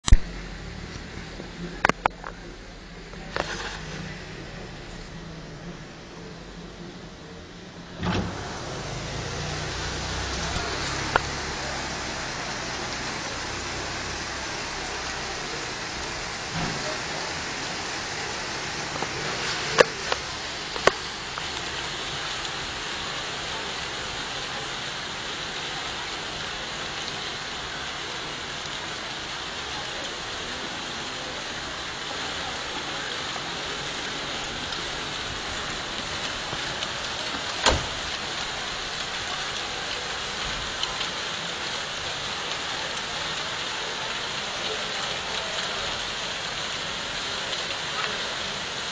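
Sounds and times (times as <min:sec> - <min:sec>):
hail pattering: 0:07.9 - 0:48.9.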